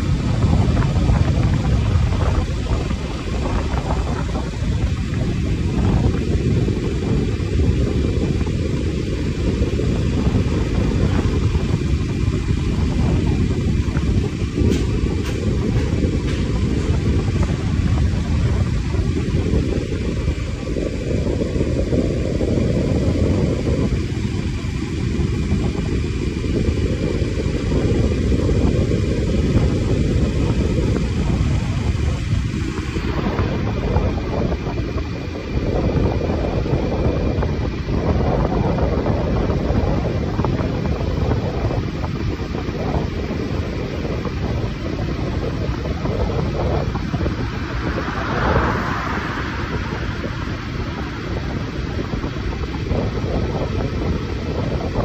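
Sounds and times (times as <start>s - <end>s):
vehicle and road noise: 0.0s - 55.0s
wind rumbling on microphone: 0.0s - 55.0s.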